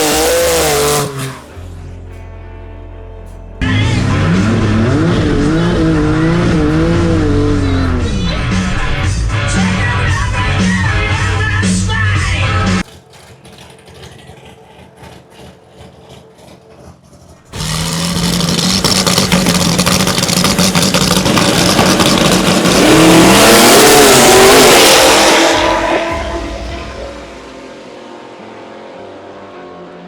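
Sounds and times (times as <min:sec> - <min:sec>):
drag car engine revving: 0:00.0 - 0:01.9, 0:03.6 - 0:30.0.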